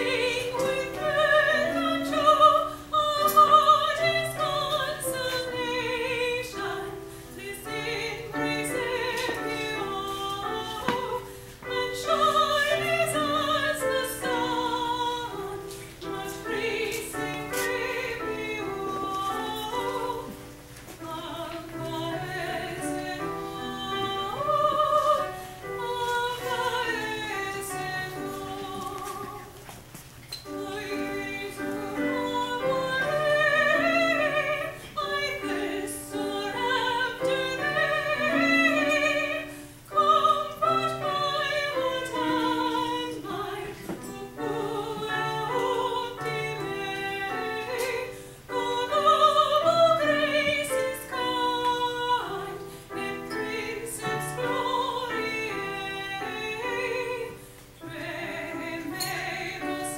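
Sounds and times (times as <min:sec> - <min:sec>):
woman singing operatically: 0:00.0 - 0:20.3, 0:21.0 - 0:29.5, 0:30.5 - 0:59.9.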